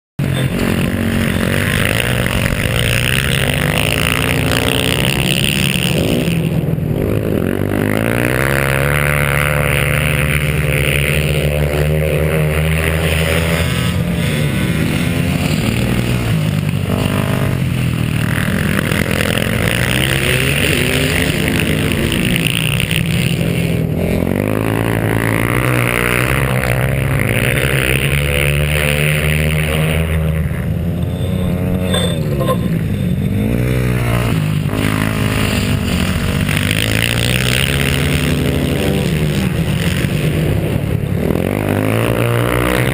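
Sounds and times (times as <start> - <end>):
dirt bike engine revving: 0.2 - 42.9.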